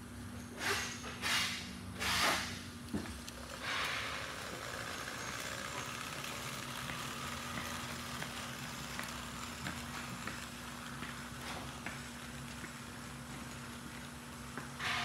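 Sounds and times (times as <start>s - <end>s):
steady low hum: 0.0s - 15.0s
tape applicator rolling on concrete: 0.6s - 15.0s.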